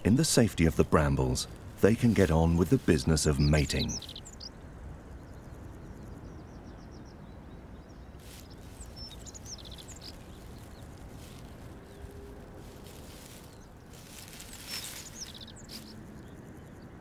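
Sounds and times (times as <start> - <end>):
low background hiss: 0.0 - 16.8
small birds chirping: 0.0 - 17.0.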